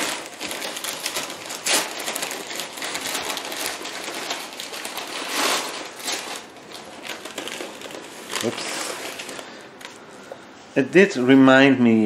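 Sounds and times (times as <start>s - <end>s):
paper packing crinkling: 0.0s - 10.4s.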